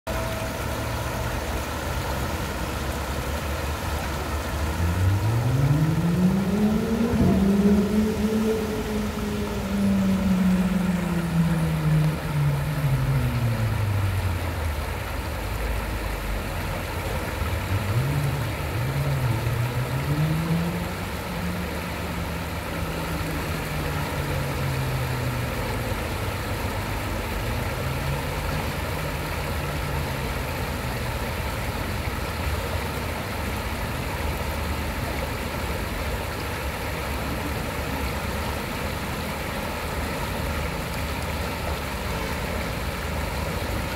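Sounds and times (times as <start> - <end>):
engine running: 0.0 - 43.9
stream rushing over rocks: 0.1 - 43.9.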